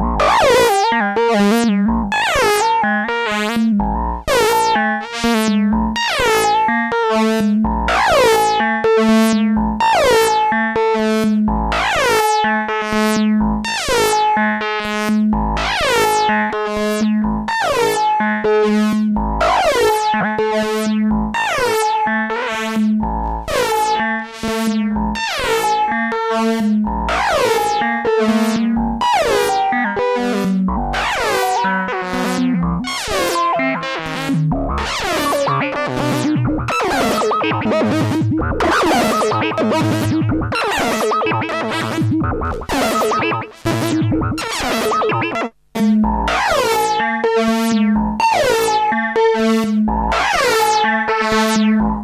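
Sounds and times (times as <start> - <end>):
synthesizer sequence of short notes: 0.0 - 9.4, 18.8 - 52.0.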